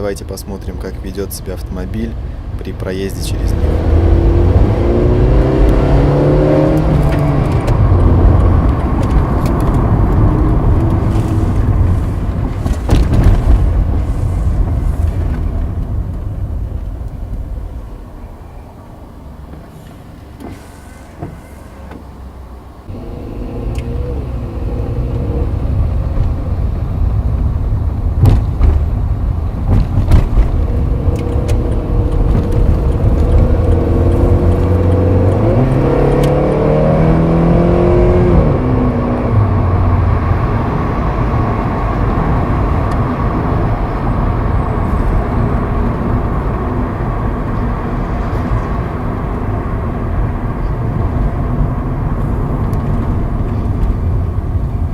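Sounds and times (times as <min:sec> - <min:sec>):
car engine accelerating: 0:03.0 - 0:54.9.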